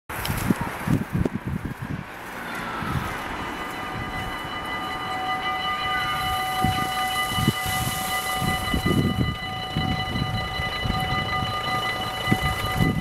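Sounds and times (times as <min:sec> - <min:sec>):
low rumbling gusts: 0:00.1 - 0:13.0
level crossing warning bells ringing: 0:02.2 - 0:13.0.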